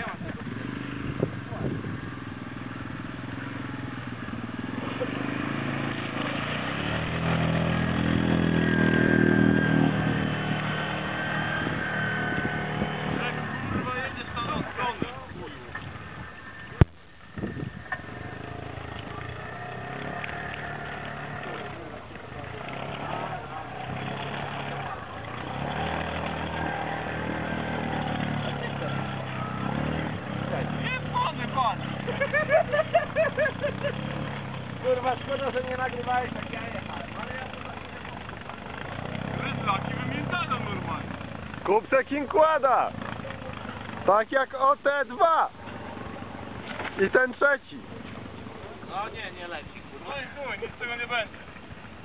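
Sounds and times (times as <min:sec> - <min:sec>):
moped engine revving hard: 0:00.0 - 0:15.1, 0:15.9 - 0:44.2.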